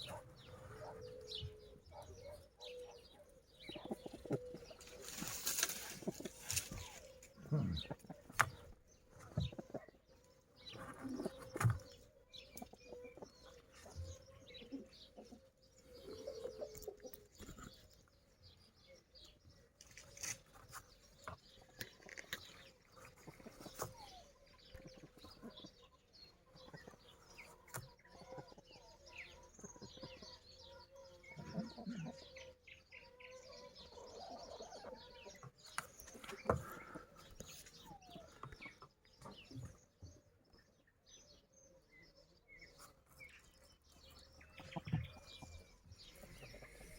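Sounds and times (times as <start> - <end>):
chickens clucking: 0.0 - 18.0, 20.7 - 39.9, 44.2 - 46.9.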